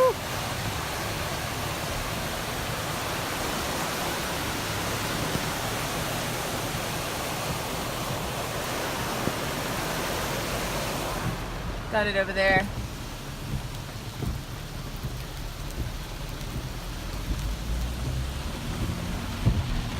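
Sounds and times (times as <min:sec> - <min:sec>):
heavy rain on a car: 0:00.0 - 0:19.9
tyres hissing on wet road: 0:00.0 - 0:19.9.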